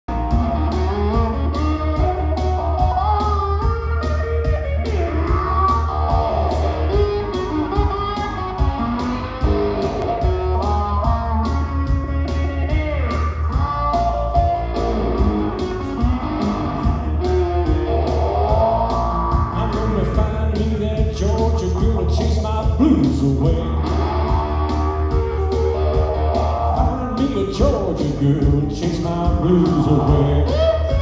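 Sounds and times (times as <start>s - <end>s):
low bass: 0.0s - 31.0s
electric guitar blues lines: 0.1s - 31.0s
even drum beat: 0.1s - 31.0s.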